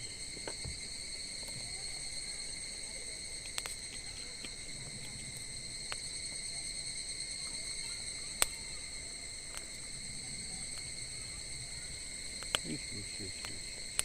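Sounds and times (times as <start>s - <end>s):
campfire crackling and popping: 0.0s - 14.0s
crickets chirping: 0.0s - 14.0s.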